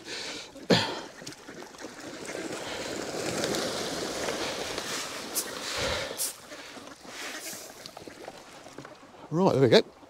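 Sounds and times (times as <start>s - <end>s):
ducks splashing in water: 0.0s - 9.3s.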